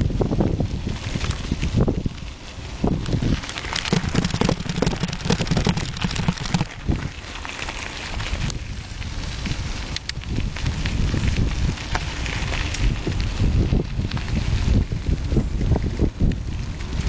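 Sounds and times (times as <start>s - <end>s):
bike tyres crunching over gravel: 0.0s - 17.0s.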